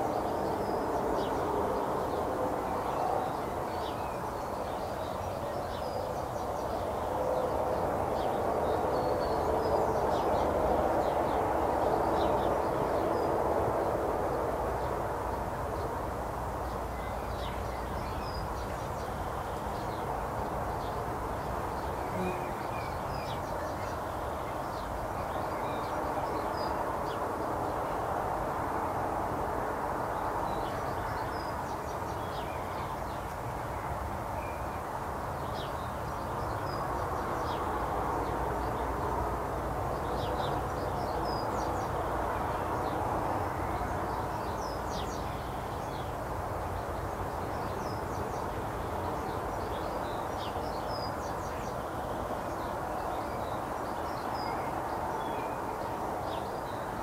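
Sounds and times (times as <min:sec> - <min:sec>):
garden birds chirping: 0:00.0 - 0:28.7, 0:30.1 - 0:57.0
steady background hiss: 0:00.0 - 0:57.0.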